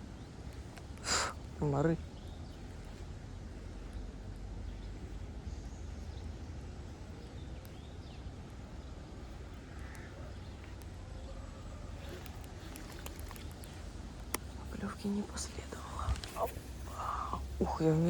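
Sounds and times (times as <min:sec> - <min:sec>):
faint birds chirping: 0:00.0 - 0:18.0
low outdoor rumble: 0:00.0 - 0:18.0.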